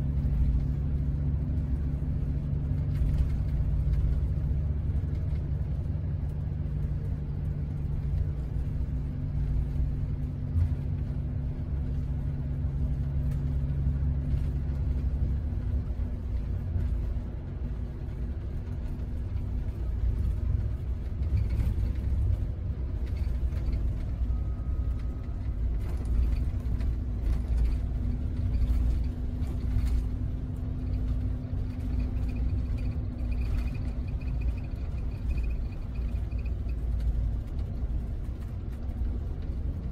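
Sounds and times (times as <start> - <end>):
coach engine drone and road noise: 0.0 - 39.9.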